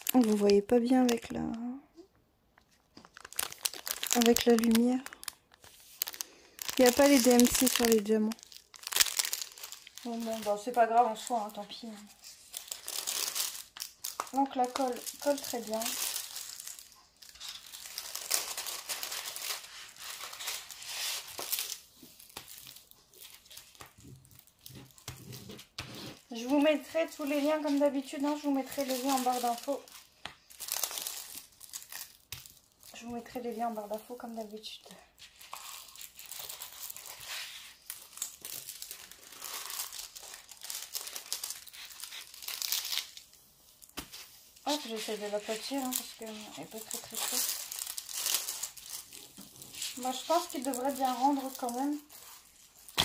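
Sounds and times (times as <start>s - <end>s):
plastic film crinkling: 0.0s - 53.0s.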